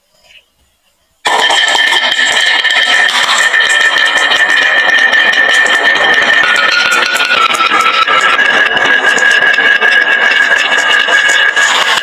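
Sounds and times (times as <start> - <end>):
steady ringing tone: 1.2 - 12.0
marbles rattling down wooden run: 1.3 - 12.0.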